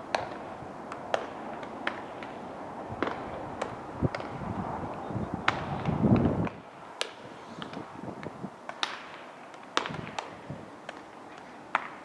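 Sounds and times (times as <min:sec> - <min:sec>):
outdoor noise: 0:00.0 - 0:12.0
baseballs smacking into gloves: 0:00.1 - 0:02.4, 0:03.0 - 0:04.4, 0:05.4 - 0:12.0.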